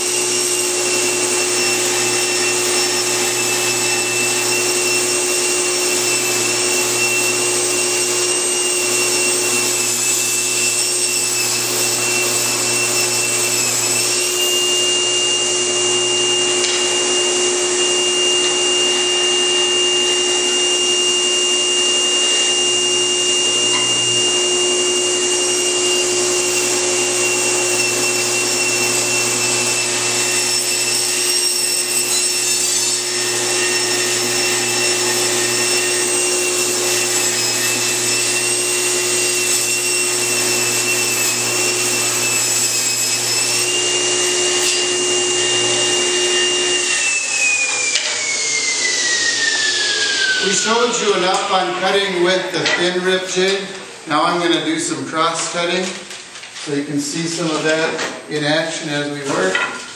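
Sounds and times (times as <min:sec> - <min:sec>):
table saw whining while ripping wood: 0:00.0 - 0:59.9.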